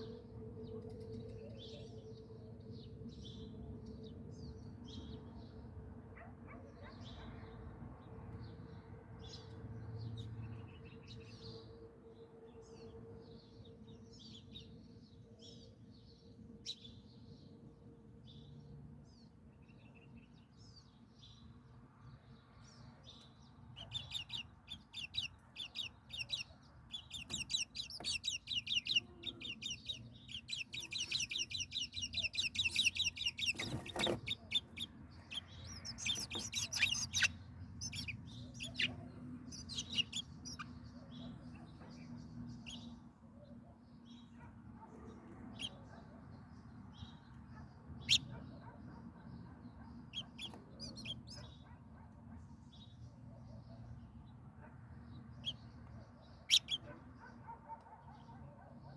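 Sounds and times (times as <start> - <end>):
small birds chirping: 0.0 - 11.8, 12.5 - 58.9.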